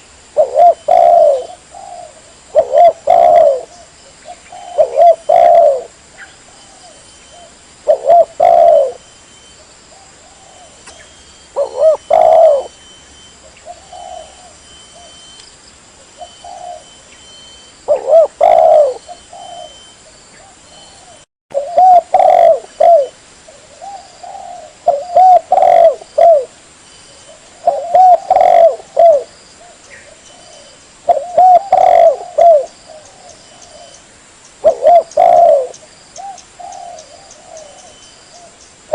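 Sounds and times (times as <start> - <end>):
dove cooing: 0.0 - 9.1, 9.9 - 15.3, 16.0 - 34.0, 34.6 - 38.6.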